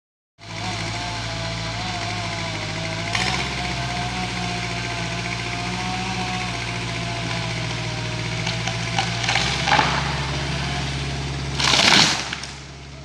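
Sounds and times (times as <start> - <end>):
machinery engine hum: 0.4 - 13.0.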